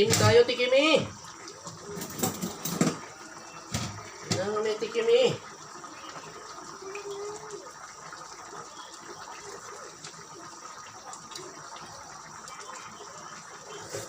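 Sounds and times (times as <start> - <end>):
sauce simmering in a pot: 0.0 - 14.0.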